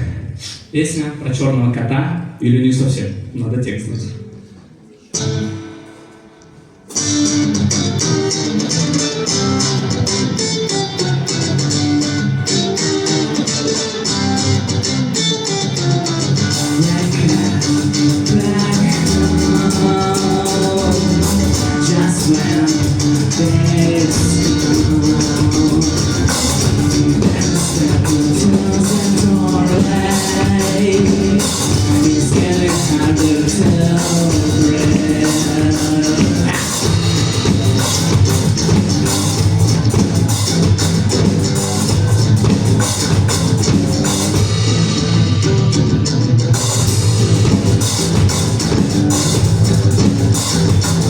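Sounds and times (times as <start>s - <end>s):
guitar: 0.0s - 51.0s
live band playing: 4.2s - 51.0s.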